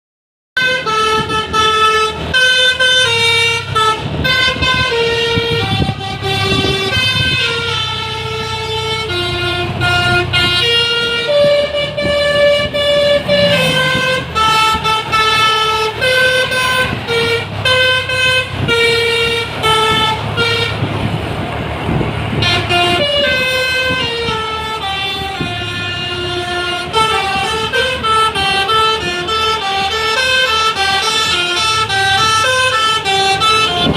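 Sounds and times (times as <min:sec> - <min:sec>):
bus engine humming: 0:00.6 - 0:33.9
bus horn playing a melody: 0:00.6 - 0:33.9.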